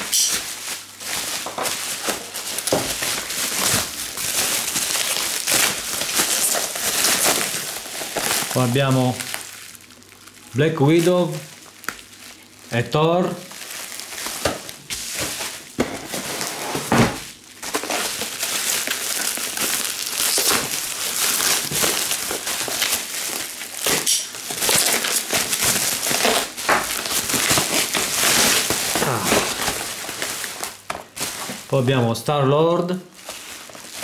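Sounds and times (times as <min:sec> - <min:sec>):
bubble wrap crinkling: 0:00.0 - 0:34.0.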